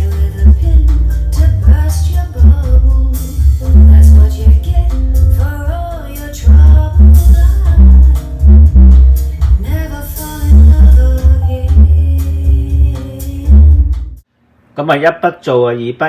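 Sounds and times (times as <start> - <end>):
song with singing: 0.0 - 8.8, 9.4 - 14.0
deep bass notes pulsing: 0.0 - 14.2.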